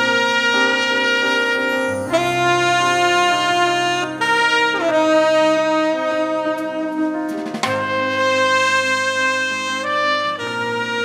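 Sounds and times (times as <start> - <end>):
jazz saxophone and trumpet harmony: 0.0 - 11.0.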